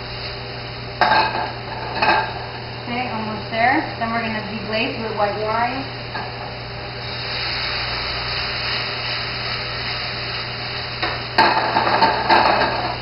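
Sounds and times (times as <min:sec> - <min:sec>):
mushrooms sizzling in a pan: 0:00.0 - 0:13.0.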